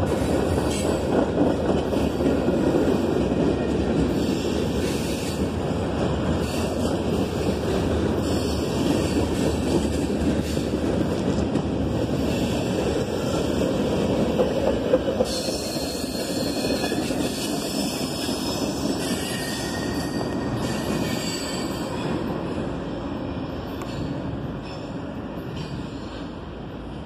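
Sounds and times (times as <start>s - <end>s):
freight train wheels rumbling on rail: 0.0s - 27.0s.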